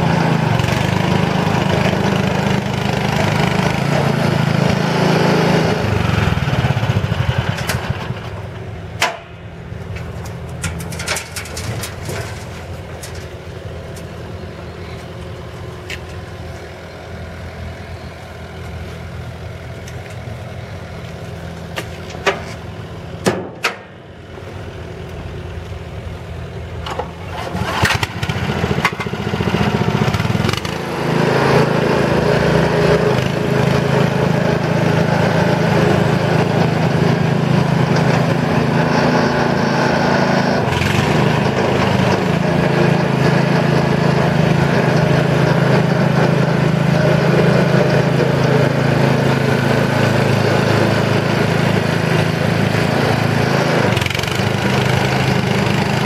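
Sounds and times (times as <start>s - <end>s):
small petrol engine sputtering: 0.0s - 23.2s, 26.4s - 56.0s.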